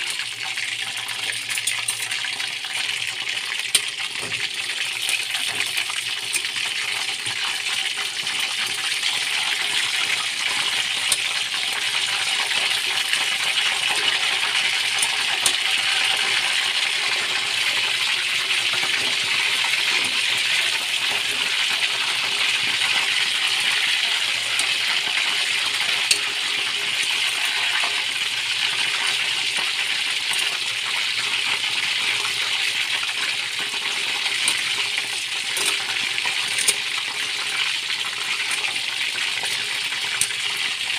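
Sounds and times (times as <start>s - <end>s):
chicken deep-frying in oil: 0.0s - 40.9s.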